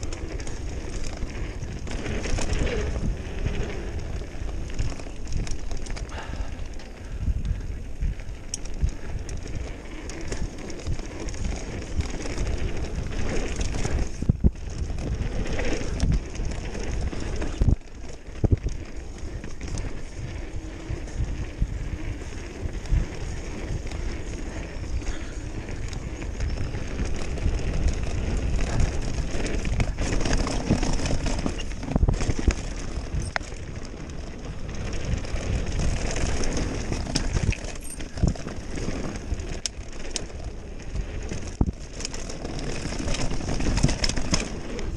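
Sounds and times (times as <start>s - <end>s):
bike clattering: 0.0s - 44.9s
bike tyres crunching over stones: 0.0s - 44.9s
wind rumble on microphone: 0.0s - 44.9s.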